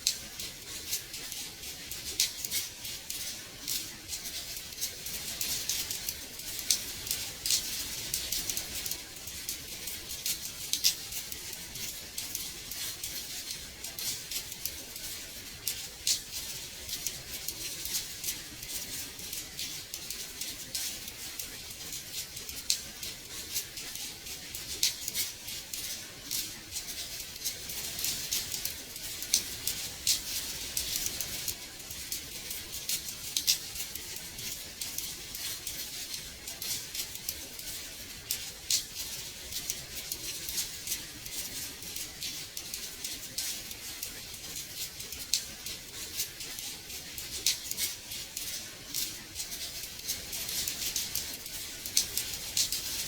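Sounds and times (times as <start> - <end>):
rain pattering on window glass: 0.0 - 53.0.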